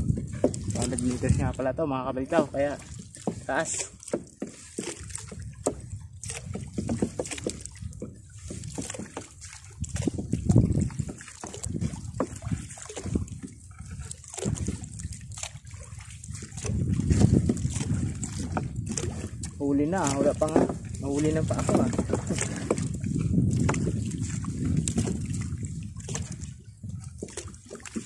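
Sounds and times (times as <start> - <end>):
water dripping and splashing: 0.0 - 28.0.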